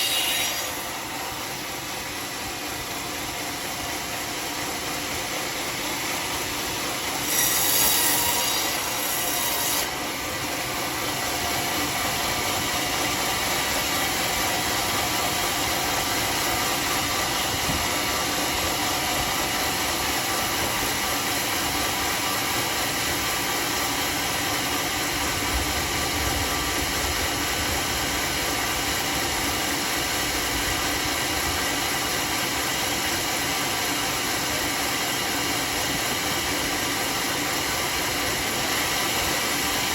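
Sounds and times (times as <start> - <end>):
sawmill cutting wood: 0.0 - 39.9.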